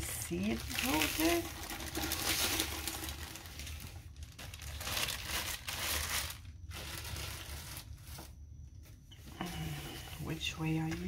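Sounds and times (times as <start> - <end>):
plastic sleeve crinkling: 0.0 - 10.3.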